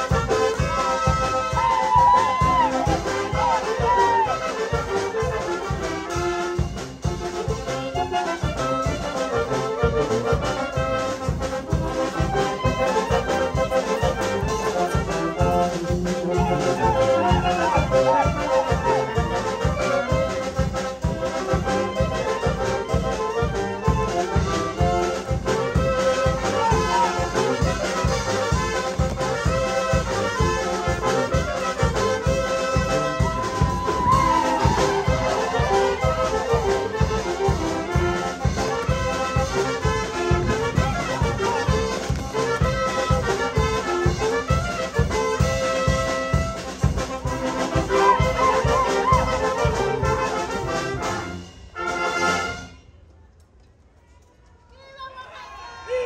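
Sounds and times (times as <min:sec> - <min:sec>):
brass band music: 0:00.0 - 0:53.1.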